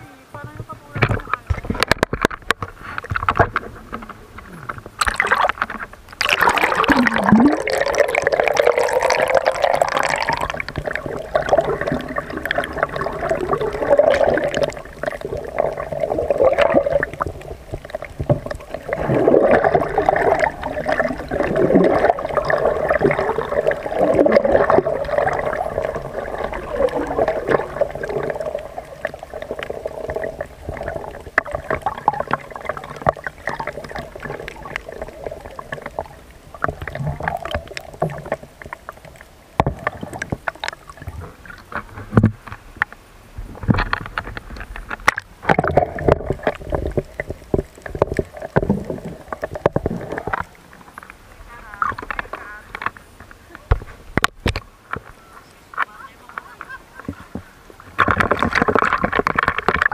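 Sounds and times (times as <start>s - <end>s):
underwater gurgling and sloshing: 0.3s - 59.9s
water splashing: 0.3s - 59.9s.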